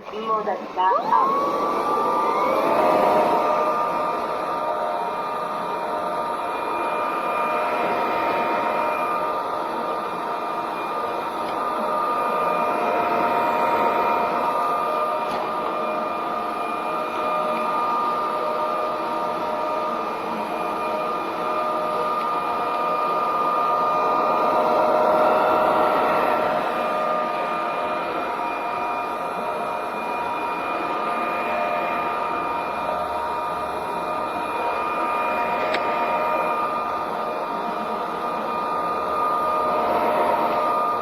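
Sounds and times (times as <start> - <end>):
floor vacuum running: 0.0 - 41.0.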